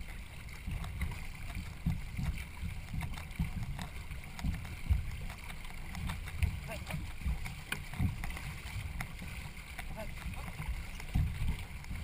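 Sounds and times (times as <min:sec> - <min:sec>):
paddles in water: 0:00.0 - 0:12.0
low knocks and thumps: 0:00.4 - 0:12.0.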